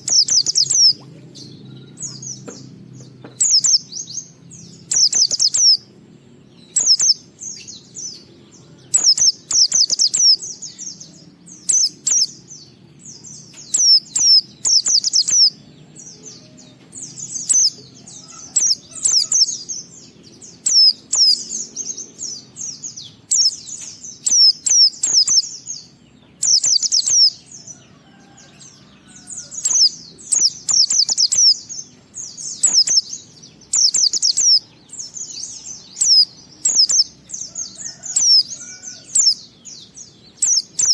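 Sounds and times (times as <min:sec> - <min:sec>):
white-eye bird twittering: 0:00.0 - 0:05.9, 0:06.6 - 0:40.9.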